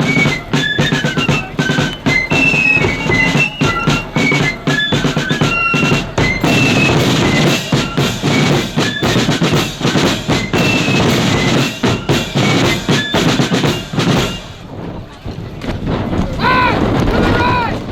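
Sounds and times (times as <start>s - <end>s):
high melody notes: 0.0s - 14.6s
bass and snare drums beating: 0.0s - 14.7s.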